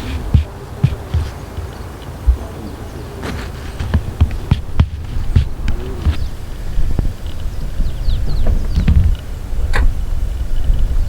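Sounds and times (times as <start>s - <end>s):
low thumps: 0.0s - 10.2s.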